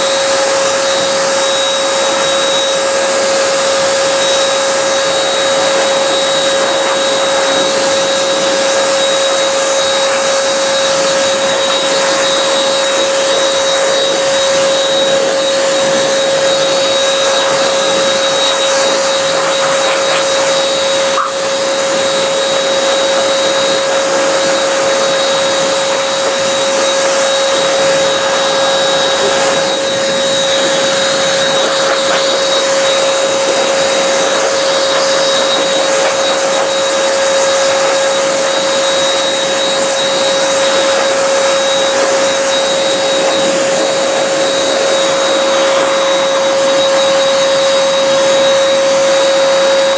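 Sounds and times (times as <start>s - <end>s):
blower rush of air: 0.0s - 49.9s
motor whine: 0.0s - 49.9s.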